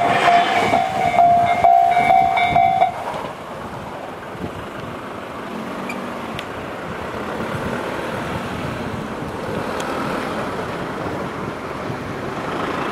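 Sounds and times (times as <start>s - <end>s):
rumbling vehicle noise: 0.0s - 12.9s.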